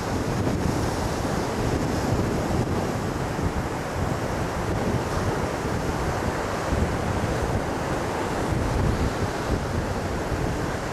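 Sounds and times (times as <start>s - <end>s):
surf washing up a beach: 0.0s - 10.9s
wind buffeting microphone: 0.0s - 10.9s.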